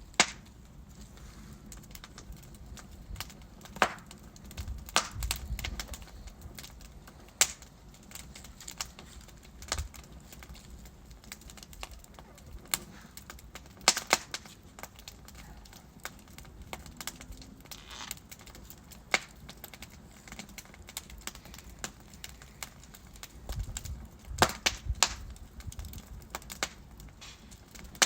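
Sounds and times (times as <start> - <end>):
low rumble of flame: 0.0 - 28.0
wood fire crackling and popping: 0.0 - 28.0.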